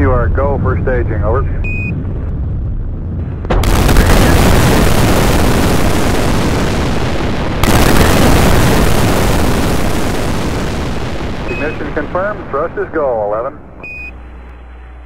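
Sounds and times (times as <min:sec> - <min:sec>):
rocket engine rumble: 0:00.0 - 0:14.4.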